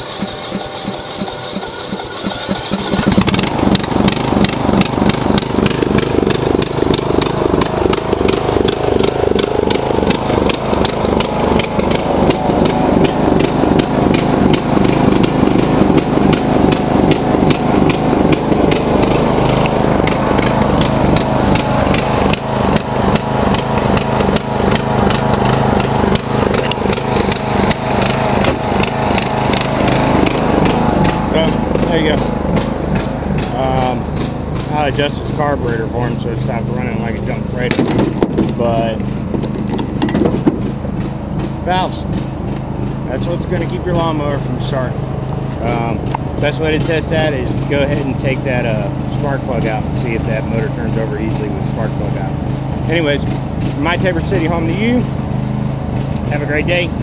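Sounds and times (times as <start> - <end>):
riding mower engine running: 0.0 - 57.0.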